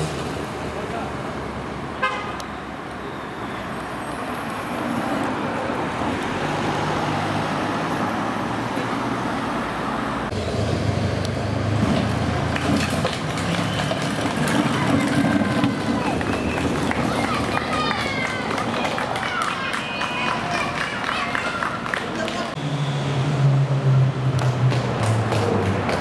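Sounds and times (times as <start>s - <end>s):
traffic rumble: 0.0s - 26.0s
tyre and road noise: 0.0s - 26.0s.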